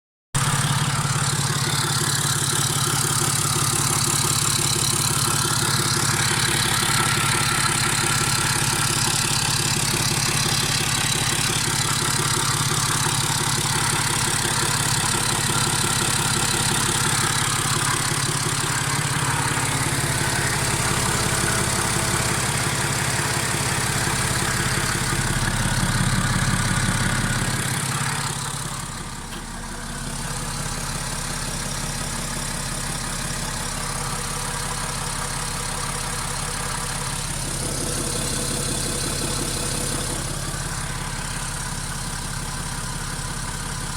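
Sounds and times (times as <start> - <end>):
engine extraneous noise: 0.4 - 30.9, 37.1 - 42.2
diesel engine idling: 0.4 - 43.9.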